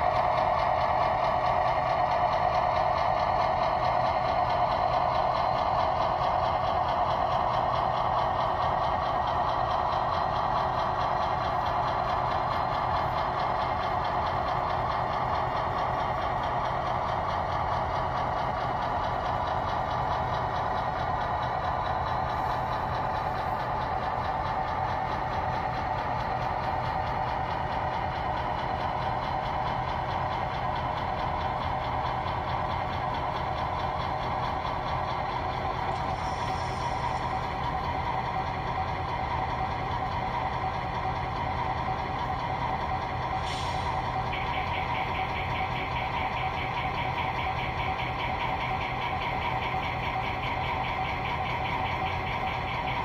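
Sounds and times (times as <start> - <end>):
model locomotive engine hum: 0.0 - 53.0.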